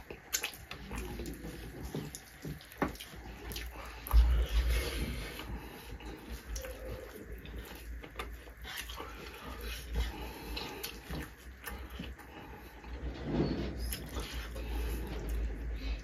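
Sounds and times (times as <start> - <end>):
chewing and mouth noises: 0.0 - 12.9
low steady hum: 0.0 - 16.0.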